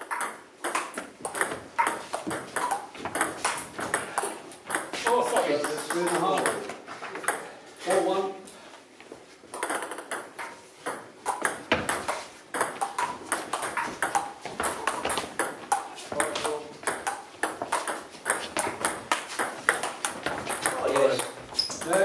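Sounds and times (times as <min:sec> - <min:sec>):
table tennis ball ticking: 0:00.0 - 0:06.6, 0:09.5 - 0:22.0.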